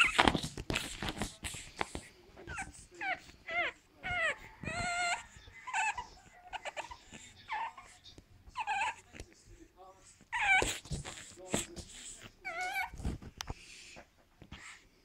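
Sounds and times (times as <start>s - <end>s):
puppy whining: 0.0s - 9.4s, 10.0s - 13.5s.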